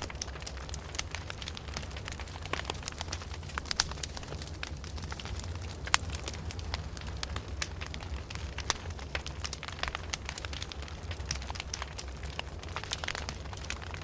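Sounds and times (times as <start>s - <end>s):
open fire crackling: 0.0s - 14.0s.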